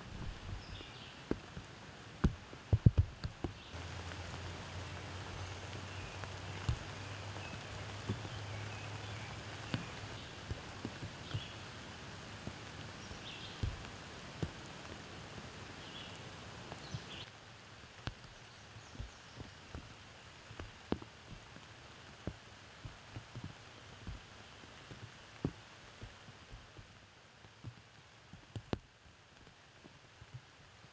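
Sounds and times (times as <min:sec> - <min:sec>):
heavy raindrops tapping: 0:00.0 - 0:30.5
rain pattering: 0:00.0 - 0:30.9.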